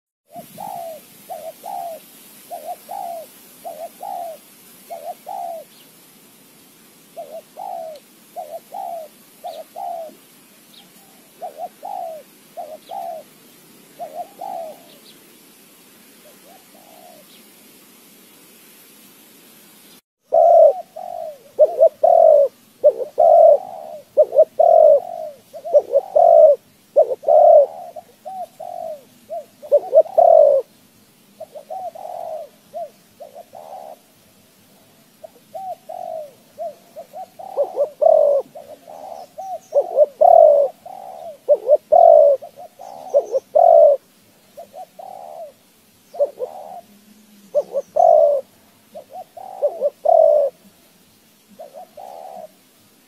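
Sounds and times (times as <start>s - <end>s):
bird cooing: 0.3s - 5.8s, 7.1s - 15.2s, 16.2s - 17.4s, 20.2s - 30.7s, 31.4s - 34.2s, 34.8s - 52.7s.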